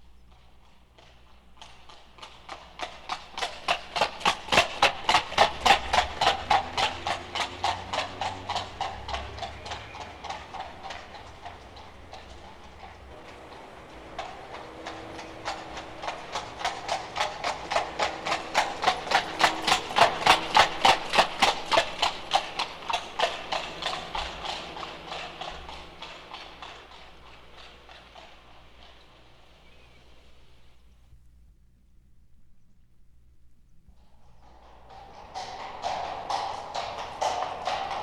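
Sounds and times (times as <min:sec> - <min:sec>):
horse hooves clip-clopping on pavement: 0:00.0 - 0:31.0, 0:33.9 - 0:38.0.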